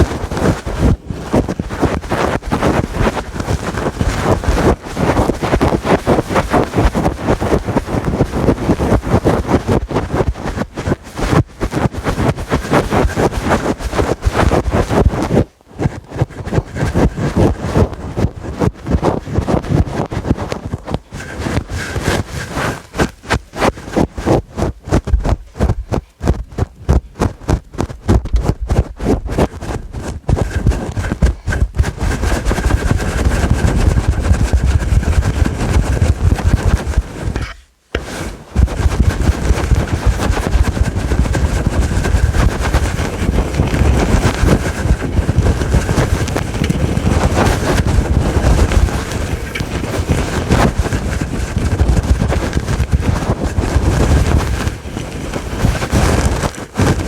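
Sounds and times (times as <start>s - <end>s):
scratching on fur microphone windscreen: 0.0s - 57.0s.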